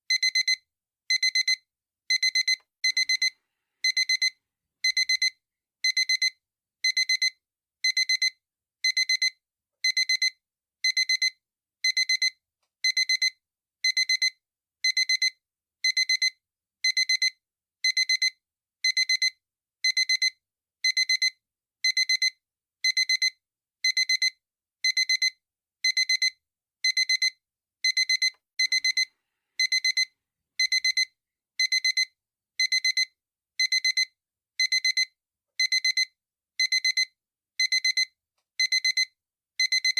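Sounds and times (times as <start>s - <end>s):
alarm clock beeping: 0.1s - 39.9s.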